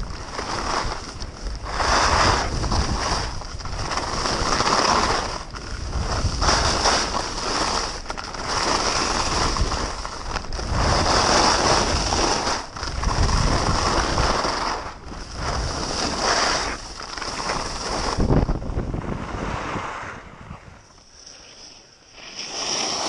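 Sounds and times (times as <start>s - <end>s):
wind on microphone: 0.0s - 21.0s
skis scraping over snow: 0.0s - 23.0s.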